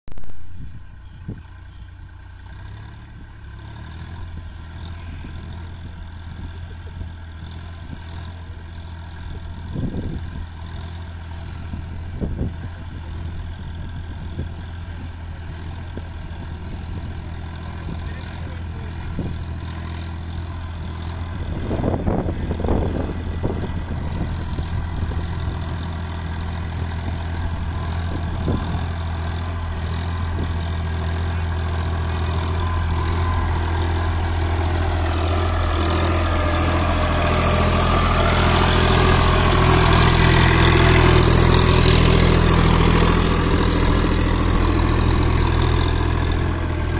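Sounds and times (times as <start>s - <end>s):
tractor diesel engine running: 0.1s - 46.9s.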